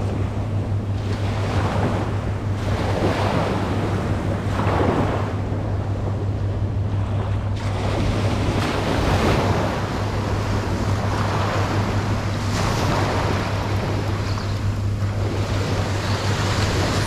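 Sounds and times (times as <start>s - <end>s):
small waves breaking in surf: 0.0s - 17.0s
wind buffeting microphone: 0.0s - 17.0s.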